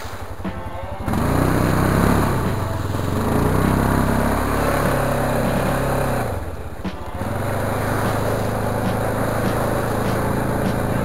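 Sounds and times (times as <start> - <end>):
atv engine under throttle: 0.1 - 11.0.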